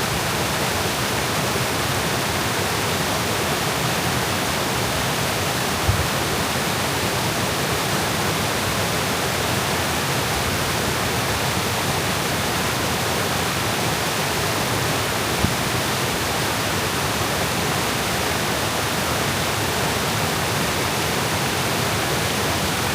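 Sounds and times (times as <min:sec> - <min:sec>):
waterfall roaring: 0:00.0 - 0:22.9.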